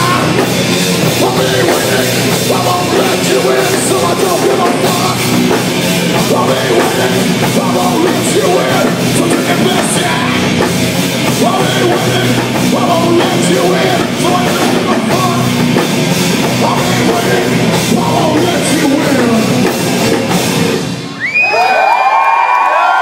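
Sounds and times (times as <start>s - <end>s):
distorted electric guitar: 0.0s - 21.3s
drum kit: 0.0s - 21.4s
hard rock band playing: 0.0s - 21.4s
crowd cheering and shouting: 0.0s - 23.0s.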